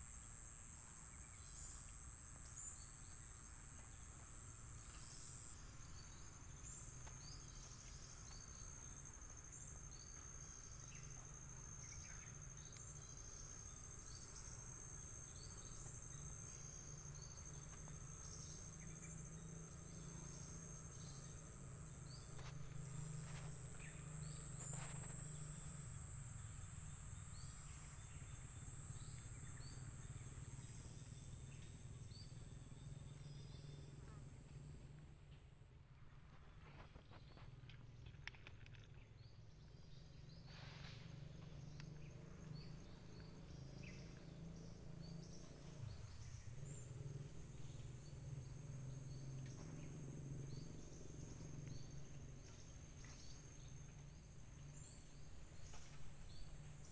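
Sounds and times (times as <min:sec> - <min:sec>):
high-pitched insect drone: 0:00.0 - 0:35.1, 0:39.8 - 0:56.9
short insect chirps: 0:00.0 - 0:35.4, 0:36.2 - 0:56.9.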